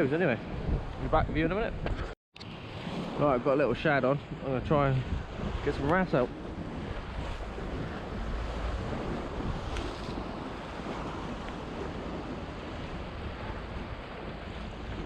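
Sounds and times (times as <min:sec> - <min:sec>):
wind buffeting microphone: 0:00.0 - 0:15.0
surf washing against rocks: 0:00.1 - 0:15.0.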